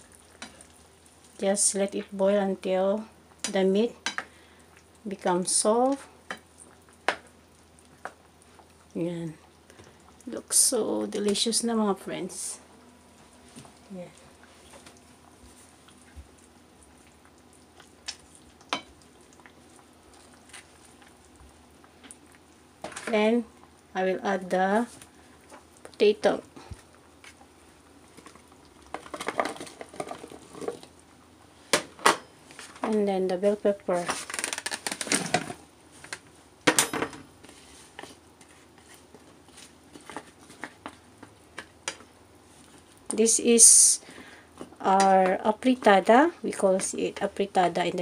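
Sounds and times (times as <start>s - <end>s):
stew simmering in a pot: 0.0s - 36.6s, 37.2s - 48.0s.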